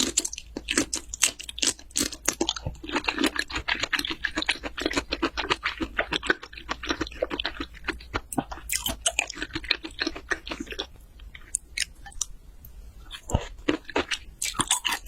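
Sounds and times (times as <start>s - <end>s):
wet chewing mouth clicks: 0.0s - 12.3s, 13.1s - 15.0s.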